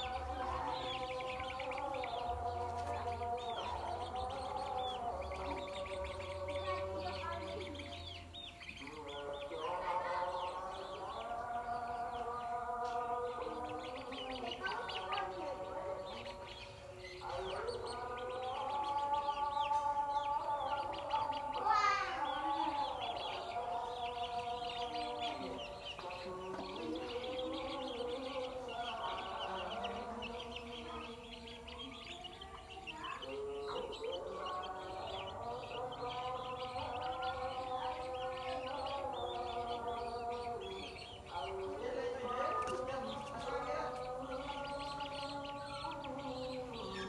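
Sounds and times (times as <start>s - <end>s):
baby chicks peeping: 0.0s - 47.0s.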